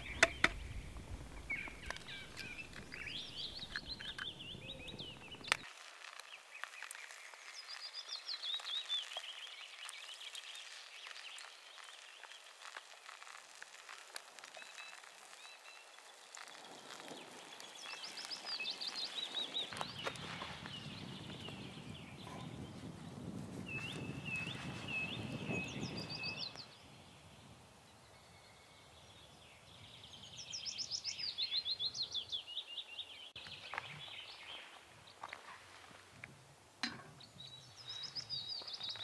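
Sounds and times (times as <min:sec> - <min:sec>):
songbirds singing: 0:00.0 - 0:05.6, 0:06.2 - 0:13.3, 0:14.5 - 0:35.4, 0:36.8 - 0:39.0.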